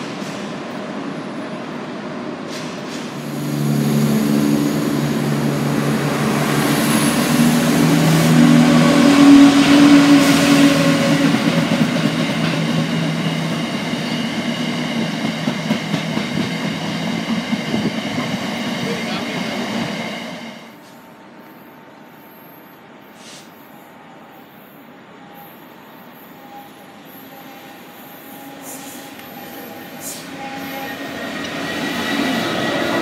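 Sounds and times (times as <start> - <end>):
diesel train pulling away: 0.0 - 20.9, 24.6 - 33.0
diesel locomotive engine passing: 0.0 - 21.4, 26.0 - 33.0.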